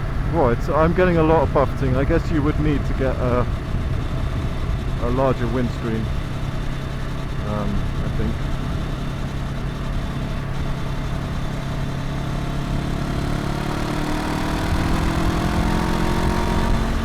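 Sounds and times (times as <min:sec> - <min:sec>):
motorcycle engine and exhaust: 0:00.0 - 0:17.0.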